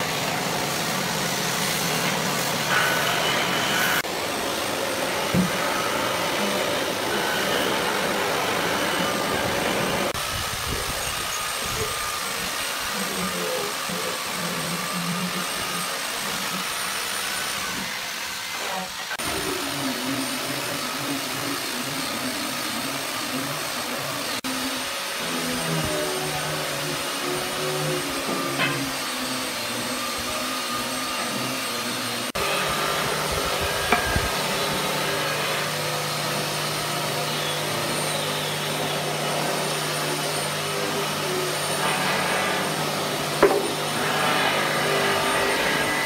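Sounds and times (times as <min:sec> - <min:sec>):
motor-driven machine drone: 0:00.0 - 0:46.0.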